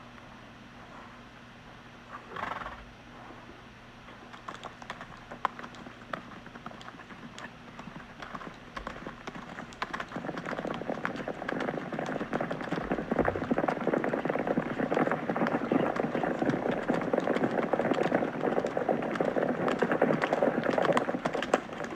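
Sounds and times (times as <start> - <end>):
horse hoofbeats: 4.1 - 21.9.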